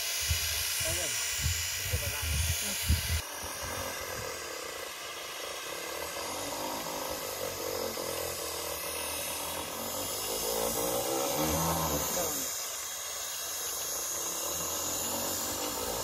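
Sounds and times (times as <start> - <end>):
electric motor running: 0.0 - 16.0.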